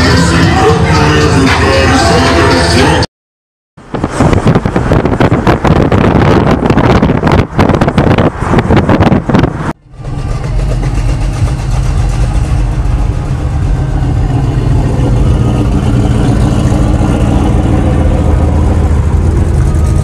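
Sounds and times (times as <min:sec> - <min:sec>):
car engine rumbling: 0:03.8 - 0:20.0
wind buffeting: 0:03.8 - 0:20.0.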